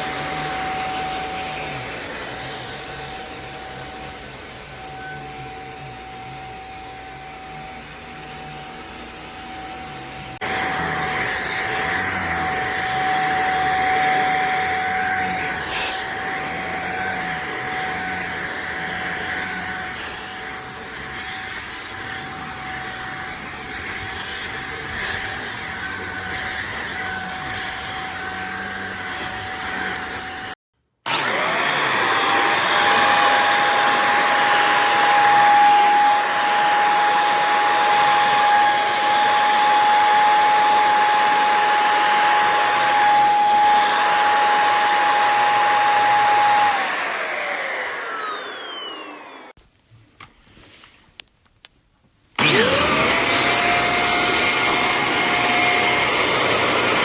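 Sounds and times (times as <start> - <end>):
vacuum cleaner whining: 0.0 - 49.6, 52.4 - 57.0.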